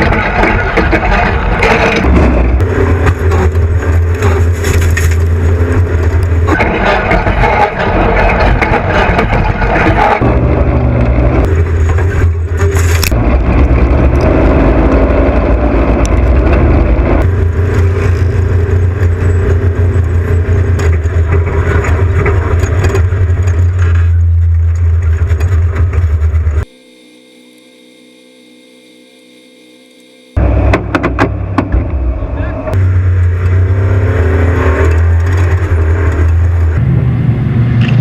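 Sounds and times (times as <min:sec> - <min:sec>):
race vehicle engine running hard: 0:00.0 - 0:27.6, 0:29.8 - 0:38.0.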